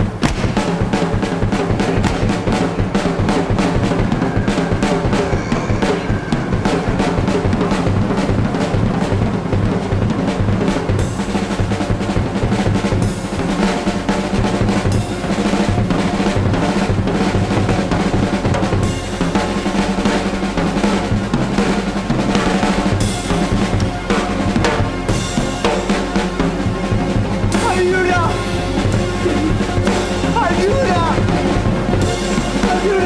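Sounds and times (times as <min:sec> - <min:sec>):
drum-driven soundtrack music: 0:00.0 - 0:33.0.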